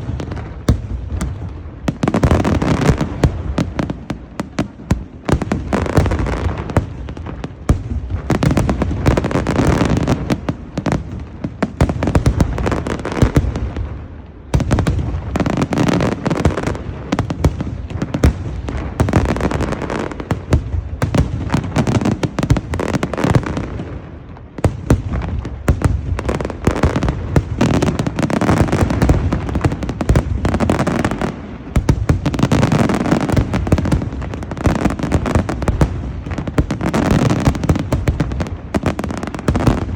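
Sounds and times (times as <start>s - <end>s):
fireworks cracks and booms: 0.0s - 39.9s.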